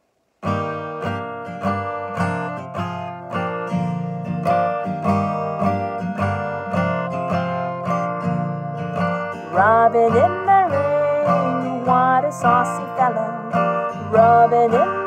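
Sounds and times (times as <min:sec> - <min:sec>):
acoustic guitar strumming: 0:00.4 - 0:15.0.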